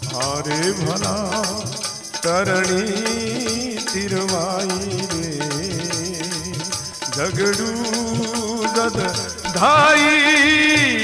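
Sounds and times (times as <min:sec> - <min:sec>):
shaker rattle: 0:00.0 - 0:11.0
steady percussion beat: 0:00.0 - 0:11.0.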